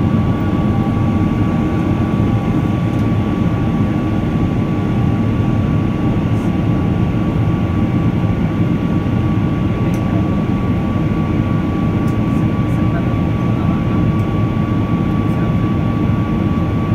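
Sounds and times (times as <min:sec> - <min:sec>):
jet engine rush in cabin: 0:00.0 - 0:16.9
thin steady engine whine: 0:00.0 - 0:16.9.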